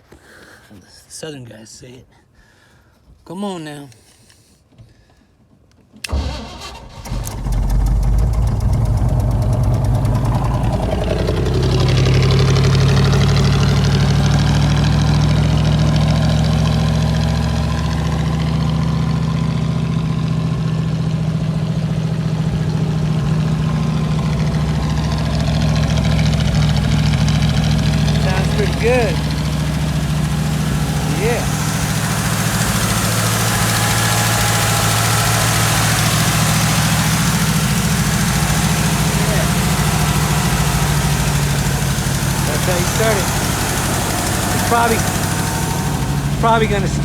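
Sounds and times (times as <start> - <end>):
pickup engine cranking and starting: 6.0 - 47.0
engine high idle: 6.1 - 47.0.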